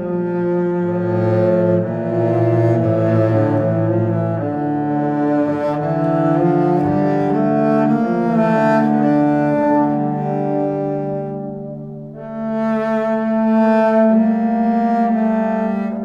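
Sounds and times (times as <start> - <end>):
slow sustained low music notes: 0.0 - 16.0.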